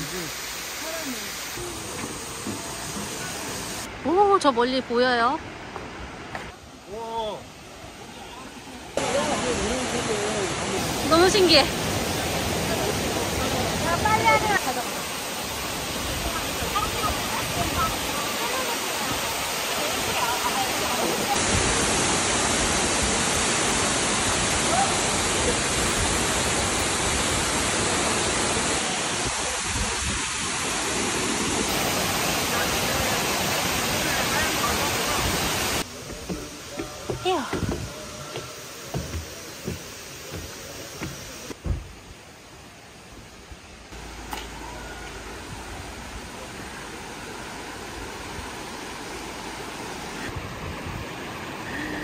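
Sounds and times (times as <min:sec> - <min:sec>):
waterfall rushing into pool: 0:00.0 - 0:52.0.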